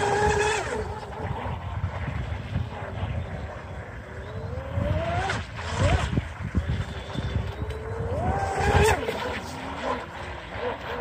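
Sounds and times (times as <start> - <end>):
electric motor whining: 0.0 - 11.0
wind rumble on microphone: 0.0 - 11.0.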